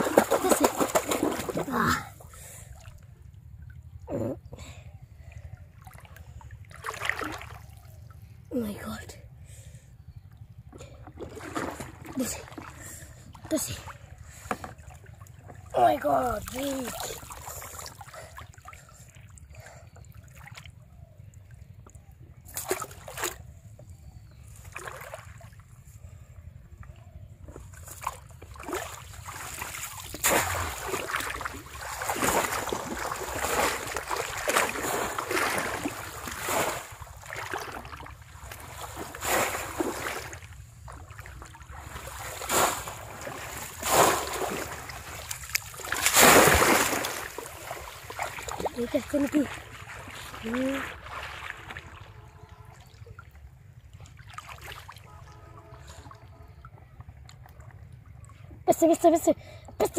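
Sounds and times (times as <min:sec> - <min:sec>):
shallow water splashing: 0:00.0 - 0:04.0, 0:05.3 - 0:08.4, 0:10.6 - 0:21.8, 0:24.4 - 0:26.0, 0:26.7 - 0:58.4.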